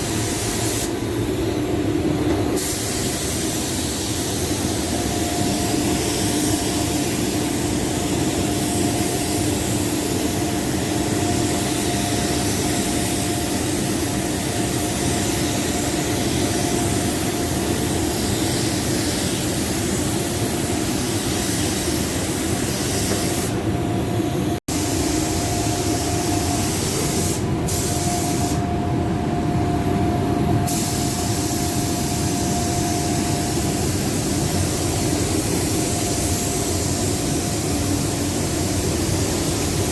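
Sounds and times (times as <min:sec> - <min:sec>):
paint spray gun hissing: 0:00.0 - 0:01.3, 0:02.5 - 0:23.7, 0:24.7 - 0:28.6, 0:30.7 - 0:39.9
mechanical hum: 0:00.0 - 0:39.9.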